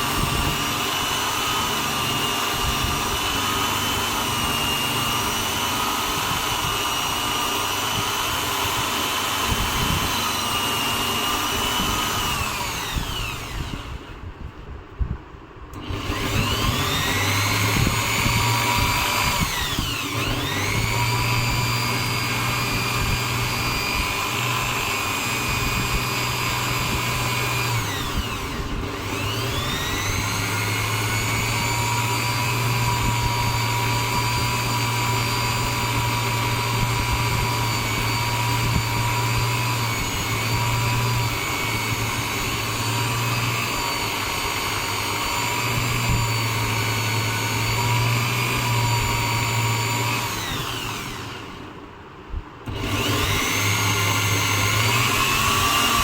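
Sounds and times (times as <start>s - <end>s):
drill press motor whining: 0.0s - 14.4s, 15.7s - 51.9s, 52.6s - 56.0s.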